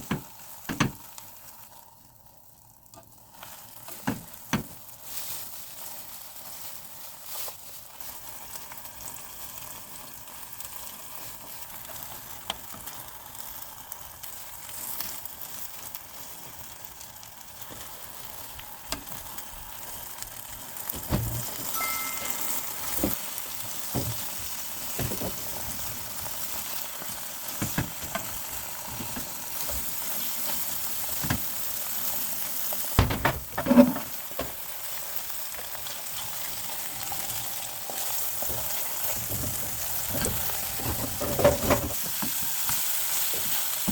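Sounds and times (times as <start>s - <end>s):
food sizzling in a frying pan: 0.0s - 33.0s, 33.6s - 43.9s.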